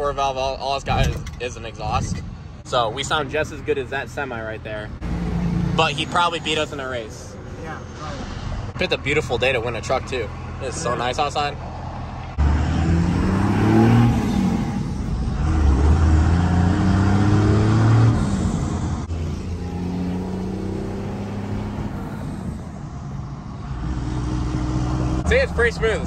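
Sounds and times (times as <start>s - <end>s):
diesel truck engine accelerating: 2.0s - 26.0s.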